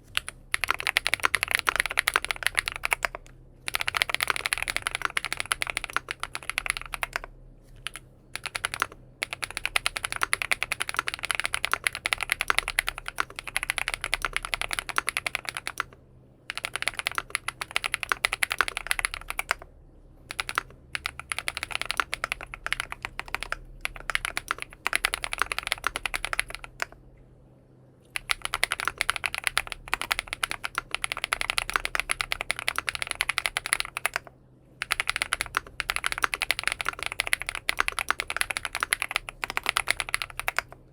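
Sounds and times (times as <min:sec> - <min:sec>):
fast typing on keyboard: 0:00.1 - 0:27.0, 0:28.1 - 0:40.8.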